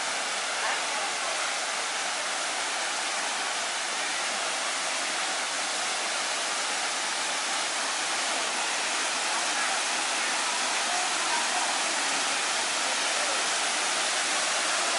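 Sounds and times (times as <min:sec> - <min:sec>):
waterfall rushing into pool: 0:00.0 - 0:14.9.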